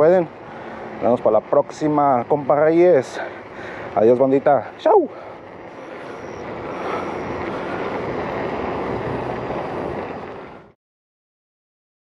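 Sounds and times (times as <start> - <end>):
tyre and traffic noise: 0.0 - 10.8.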